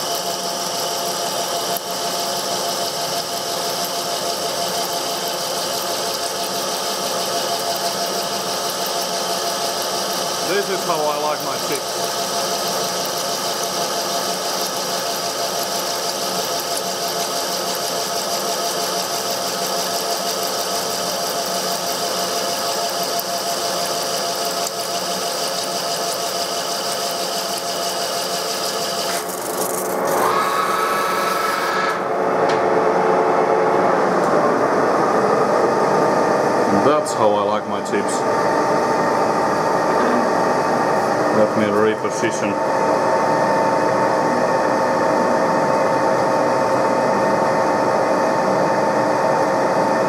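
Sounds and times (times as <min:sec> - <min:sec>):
lathe gear train whining: 0:00.0 - 0:50.0.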